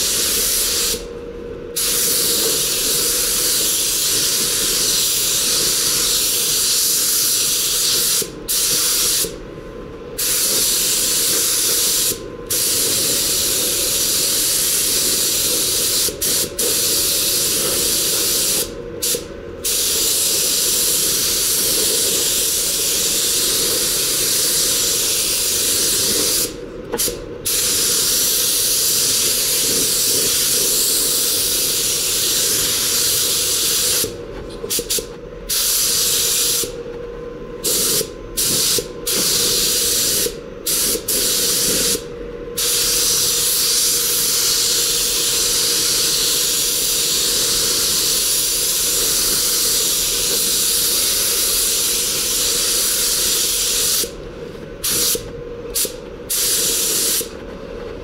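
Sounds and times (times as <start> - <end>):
paint spray gun hissing: 0.0 - 1.1, 1.8 - 9.3, 10.2 - 34.1, 37.6 - 42.0, 42.6 - 54.2, 55.8 - 57.3.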